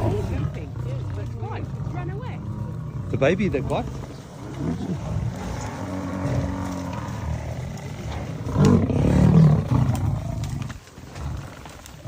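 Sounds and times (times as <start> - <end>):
lions growling: 0.0 - 12.0.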